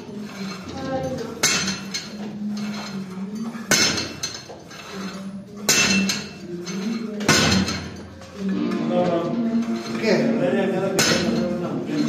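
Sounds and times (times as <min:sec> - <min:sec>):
weight stack clanking: 0:00.0 - 0:12.0.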